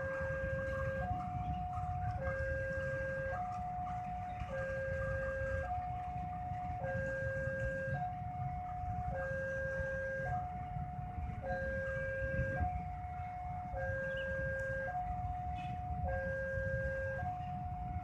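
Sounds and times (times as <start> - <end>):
road traffic rumble: 0.0 - 18.0
two-tone crossing alarm: 0.0 - 18.0.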